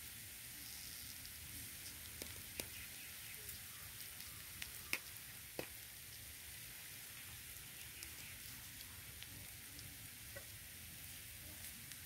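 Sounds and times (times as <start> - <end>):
faint frying sizzle: 0.0 - 12.0
sharp crackles: 0.5 - 6.6, 7.2 - 12.0.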